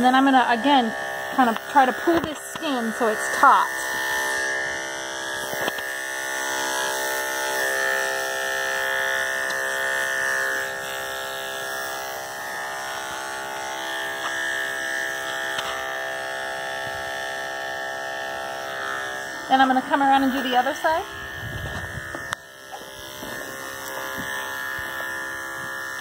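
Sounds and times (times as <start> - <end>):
electric clippers buzzing: 0.0 - 26.0.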